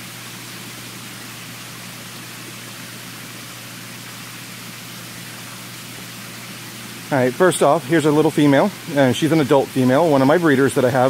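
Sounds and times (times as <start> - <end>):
water flowing hiss: 0.0 - 11.0.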